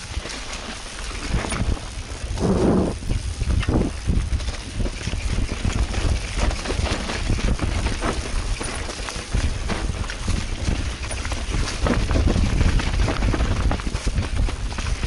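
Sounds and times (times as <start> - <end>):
bike rattling over roots: 0.0 - 15.0
tyres on dirt and dry leaves: 0.0 - 15.0
wind rumbling on microphone: 0.0 - 15.0.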